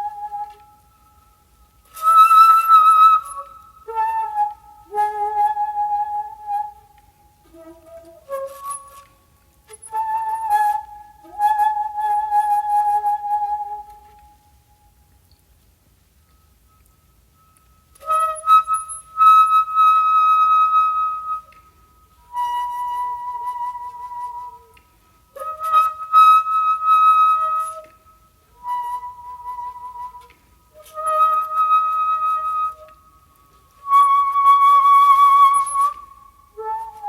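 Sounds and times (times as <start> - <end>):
bamboo flute melody: 0.0 - 37.0.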